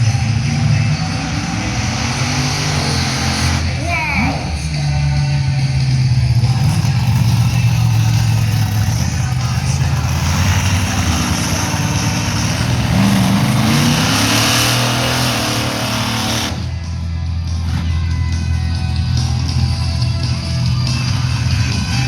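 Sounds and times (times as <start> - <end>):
truck engine revving loudly: 0.0 - 22.0.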